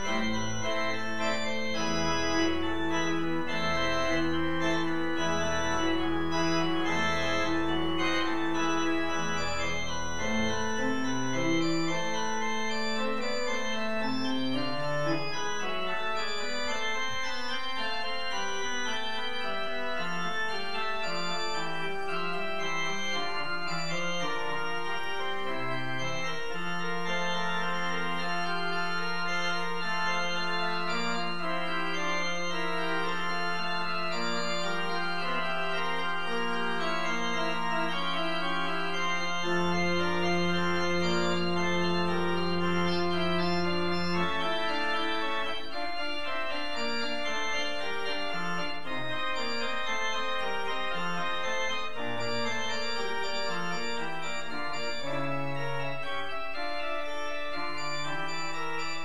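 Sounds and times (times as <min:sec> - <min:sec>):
church organ playing: 0:00.0 - 0:59.0.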